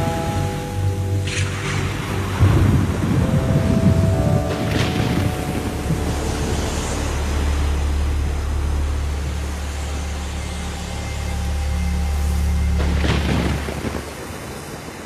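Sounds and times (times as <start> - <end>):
deep continuous rumble: 0.0 - 15.0
heavy rain hissing: 0.0 - 15.0.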